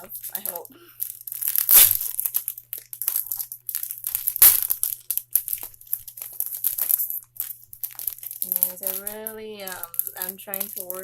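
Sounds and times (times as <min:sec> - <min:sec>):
packaging crinkling and rustling: 0:00.0 - 0:11.0
packaging crunches: 0:00.0 - 0:11.0.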